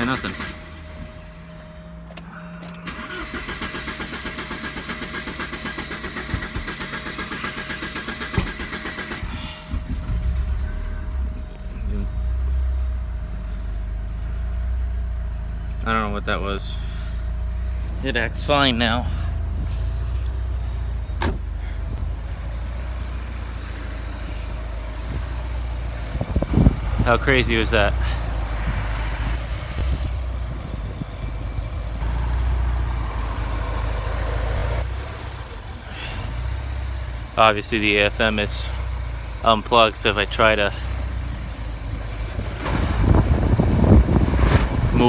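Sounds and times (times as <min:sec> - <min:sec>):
engine cranking by starter: 0:00.0 - 0:45.0.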